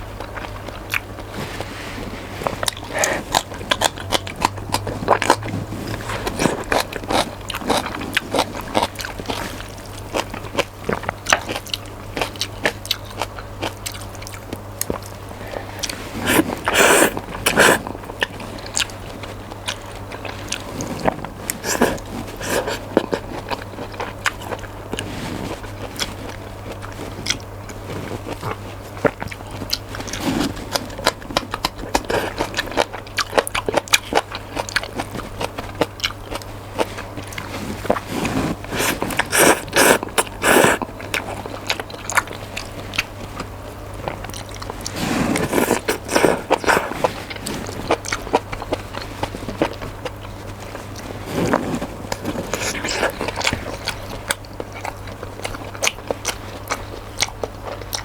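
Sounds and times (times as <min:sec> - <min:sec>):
steady low hum: 0:00.0 - 0:58.0
person chewing noodles: 0:00.2 - 0:58.0.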